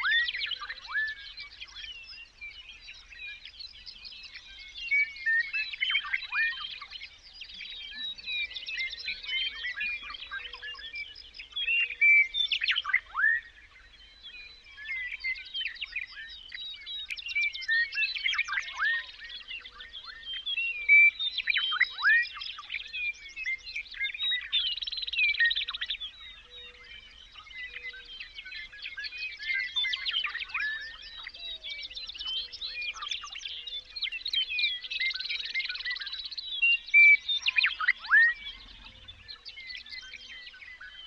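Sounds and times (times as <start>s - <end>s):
chorus of songbirds singing: 0.0s - 41.0s.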